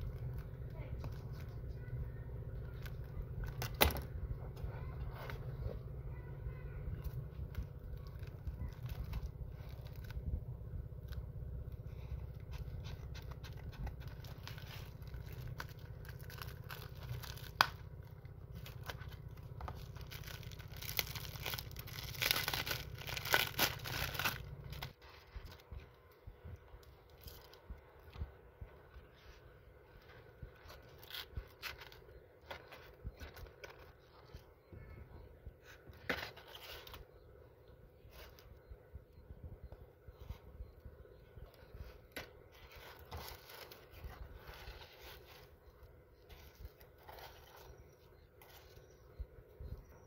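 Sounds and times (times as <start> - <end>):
crinkling handling noise: 0.0 - 50.0
steady low rumble: 0.0 - 50.0.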